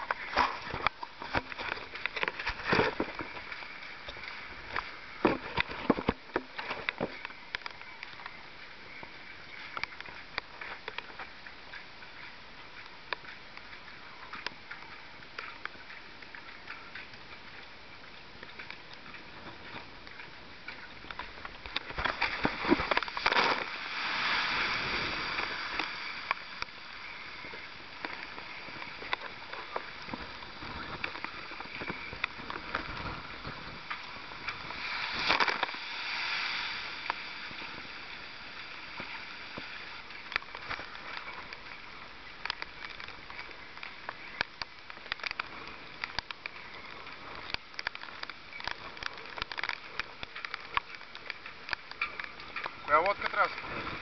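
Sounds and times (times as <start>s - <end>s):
water washing: 0.0s - 54.0s
waves crashing on breakwater: 0.0s - 54.0s.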